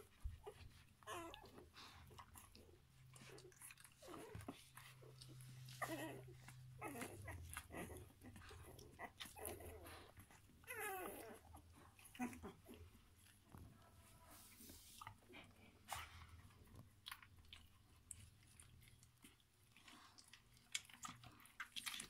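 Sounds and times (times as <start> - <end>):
puppies whimpering and squeaking: 0.0 - 22.0.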